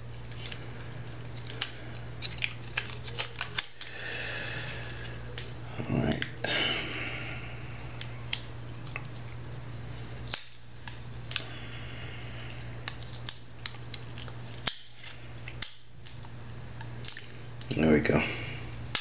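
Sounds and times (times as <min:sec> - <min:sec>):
plastic tape crackling: 0:00.1 - 0:07.0, 0:07.7 - 0:17.8.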